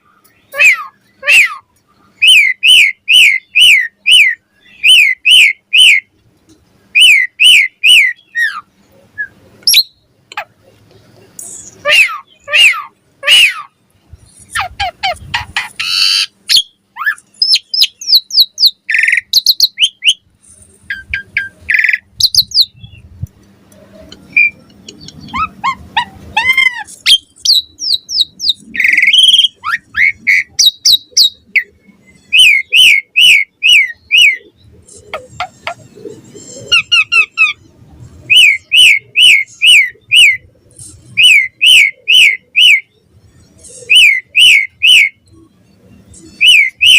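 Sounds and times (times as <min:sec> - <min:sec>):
starling singing: 0:00.2 - 0:06.1, 0:06.9 - 0:10.6, 0:11.2 - 0:23.1, 0:23.8 - 0:46.9.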